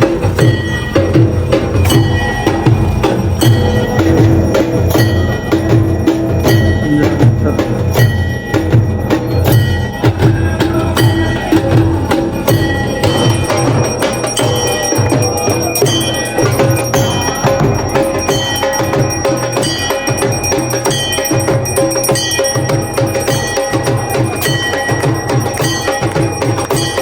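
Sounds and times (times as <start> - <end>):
bells ringing: 0.0 - 27.0
steady drum beat: 0.0 - 27.0.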